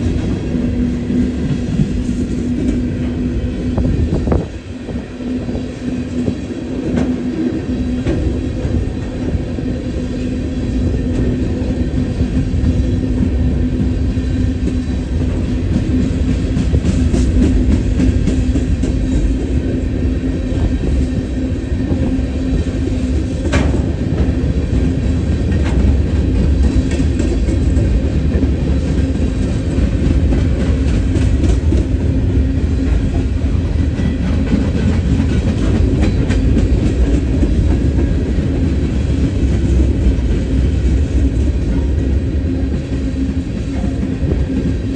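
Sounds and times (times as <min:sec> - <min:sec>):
train rumbling past: 0:00.0 - 0:44.9.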